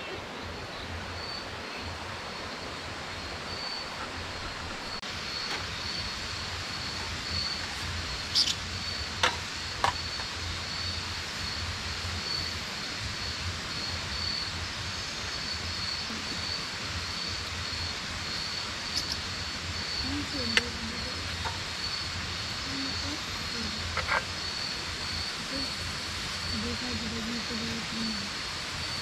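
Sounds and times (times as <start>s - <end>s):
insect chirping: 0.0s - 29.0s.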